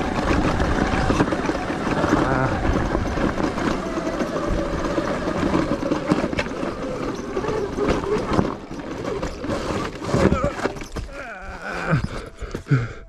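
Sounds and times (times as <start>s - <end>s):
electric motor whining: 0.0s - 12.8s
drivetrain and riding noise: 0.0s - 13.0s.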